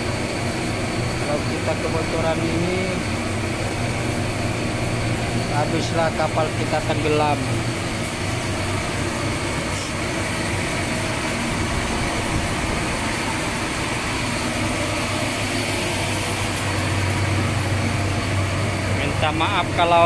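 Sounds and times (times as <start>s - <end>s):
loud steady blower noise: 0.0s - 20.0s
low machinery hum: 0.0s - 20.0s.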